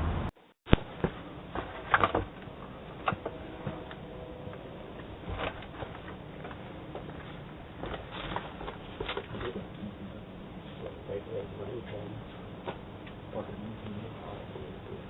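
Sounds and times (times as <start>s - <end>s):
steady background hiss: 0.7s - 15.0s.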